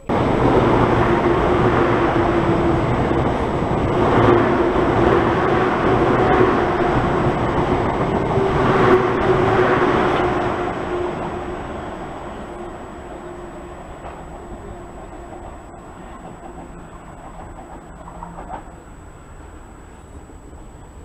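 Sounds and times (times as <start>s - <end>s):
train hum: 0.0s - 21.0s
train wheels rumbling on rails: 0.0s - 21.0s.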